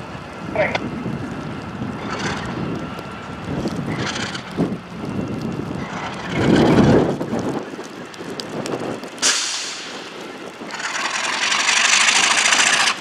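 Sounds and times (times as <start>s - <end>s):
diesel locomotive engine under load: 0.0s - 13.0s
wind on microphone: 0.0s - 13.0s.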